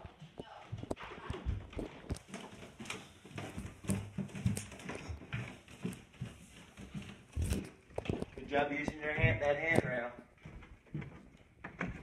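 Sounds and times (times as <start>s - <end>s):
footsteps going down stairs: 0.0s - 12.0s.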